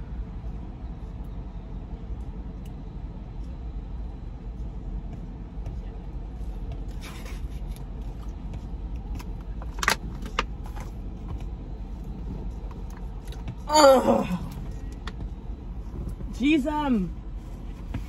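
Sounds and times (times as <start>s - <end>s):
low rumble inside car: 0.0s - 18.0s.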